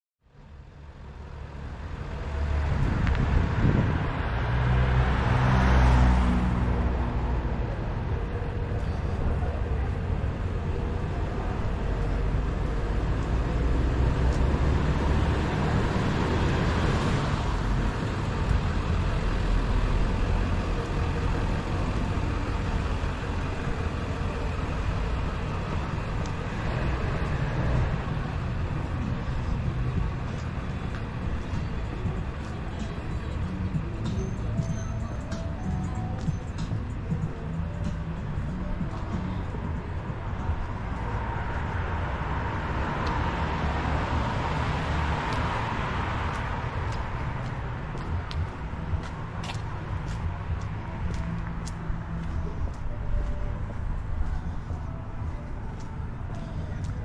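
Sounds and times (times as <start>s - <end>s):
traffic rumble: 0.2s - 57.0s
cars passing: 0.3s - 57.0s.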